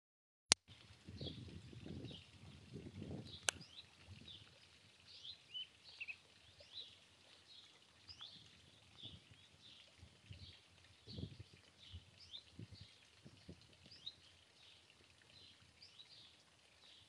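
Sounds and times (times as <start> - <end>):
open-country background noise: 0.5 - 17.0
small birds chirping faintly: 3.2 - 17.0.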